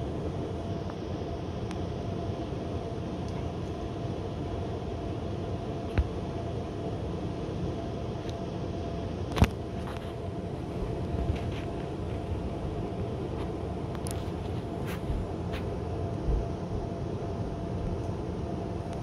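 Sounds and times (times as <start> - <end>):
air conditioning unit droning: 0.0 - 19.0.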